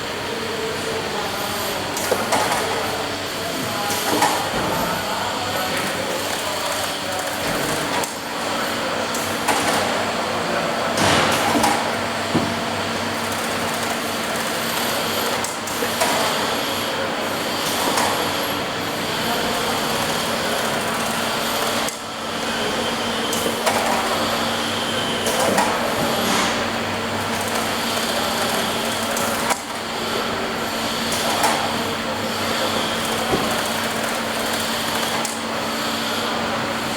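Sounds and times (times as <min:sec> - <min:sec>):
carton taping machine running: 0:00.0 - 0:36.9.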